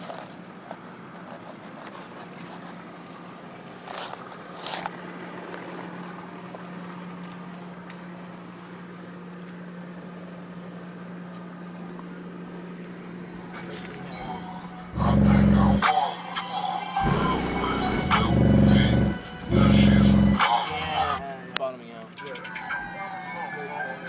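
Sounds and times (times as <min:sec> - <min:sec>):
car engine idling: 0:00.4 - 0:16.1, 0:17.0 - 0:21.3.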